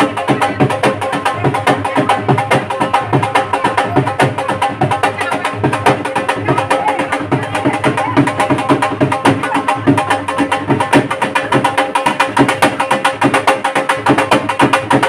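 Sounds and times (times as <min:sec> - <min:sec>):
drum beaten in dance rhythm: 0:00.0 - 0:15.0.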